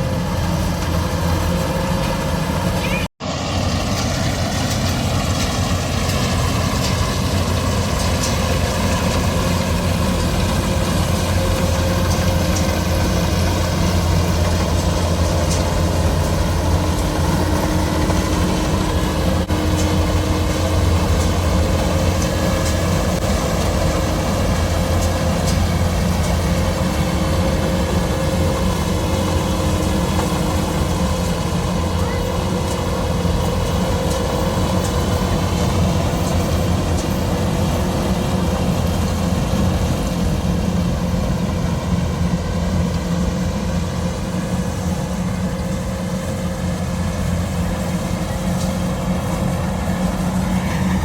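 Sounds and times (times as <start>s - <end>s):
combine harvester engine droning: 0.0s - 51.0s.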